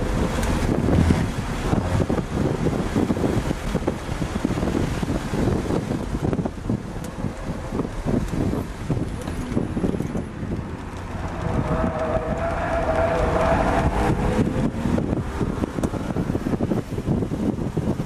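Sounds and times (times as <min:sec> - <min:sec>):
car engine at speed: 0:00.0 - 0:18.0
wind buffeting microphone: 0:00.0 - 0:18.0.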